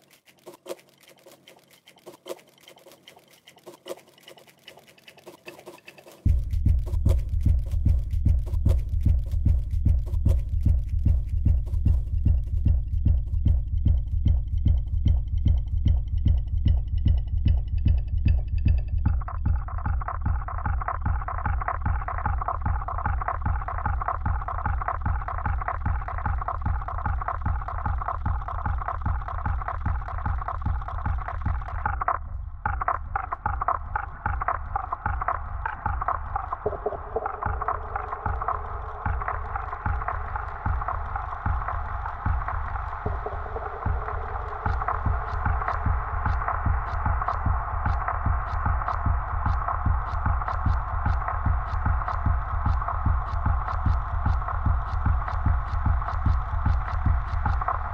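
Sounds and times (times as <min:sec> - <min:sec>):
electronic soundtrack music: 0:00.9 - 0:57.9.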